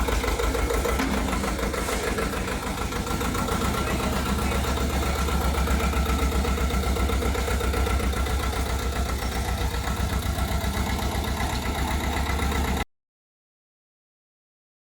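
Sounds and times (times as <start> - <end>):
tractor engine idling: 0.0 - 12.8.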